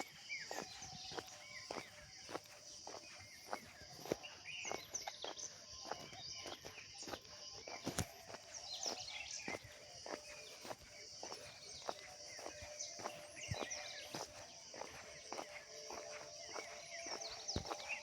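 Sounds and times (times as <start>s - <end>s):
footsteps on a road: 0.0s - 18.0s
small birds chirping: 0.0s - 18.0s.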